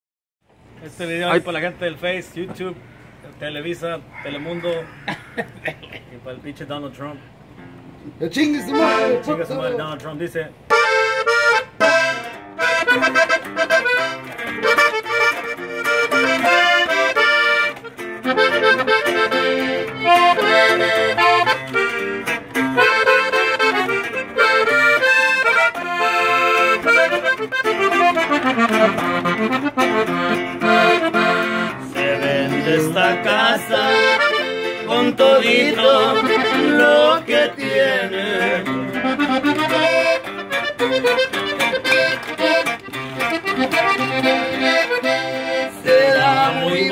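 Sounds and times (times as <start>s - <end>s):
strummed twelve-string guitar: 7.6s - 46.9s
button accordion melody: 8.4s - 10.0s, 10.7s - 46.9s.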